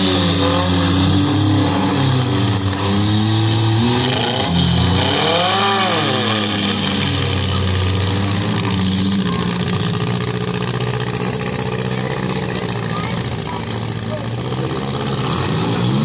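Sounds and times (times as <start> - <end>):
car engine revving: 0.0 - 16.0
car engines droning: 0.0 - 16.0.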